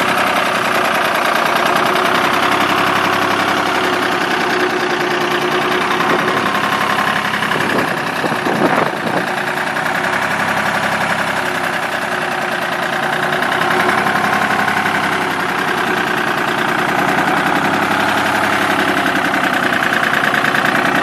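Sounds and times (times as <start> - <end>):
diesel tractor engine idling: 0.0 - 21.0.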